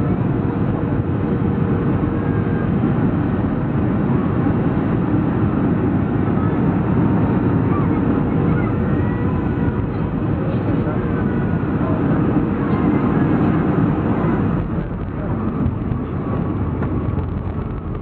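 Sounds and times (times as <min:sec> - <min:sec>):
jet engines in cabin: 0:00.0 - 0:18.0.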